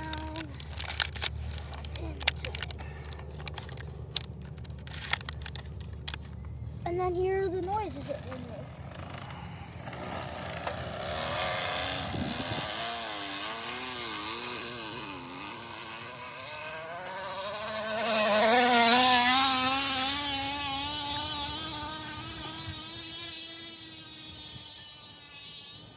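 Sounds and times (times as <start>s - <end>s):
plastic bottle buzzing on bicycle spokes: 0.0s - 6.2s, 8.3s - 25.9s.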